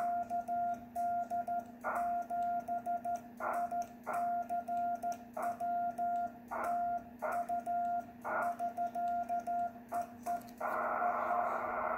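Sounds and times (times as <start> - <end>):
morse code tone: 0.0 - 11.4.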